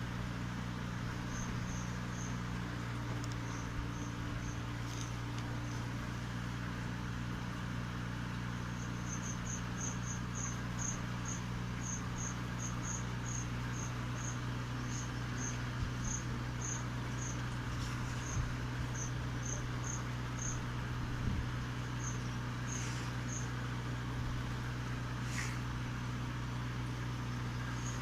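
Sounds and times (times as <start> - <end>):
electrical hum and hiss: 0.0 - 28.0
insect chirping: 0.8 - 6.1, 8.5 - 28.0.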